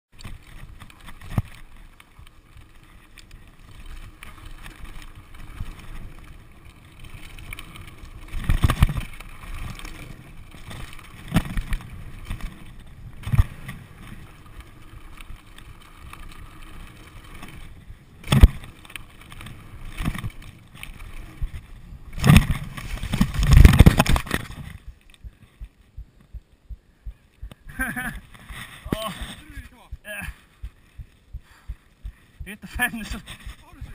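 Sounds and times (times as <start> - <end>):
bike rattling over bumps: 0.1 - 33.9
bike tyres rolling on dirt: 0.1 - 33.9.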